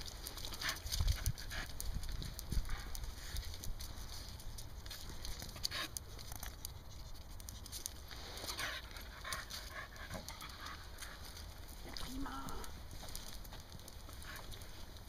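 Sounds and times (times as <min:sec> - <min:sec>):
dog sniffing and panting: 0:00.0 - 0:11.9, 0:12.8 - 0:15.0.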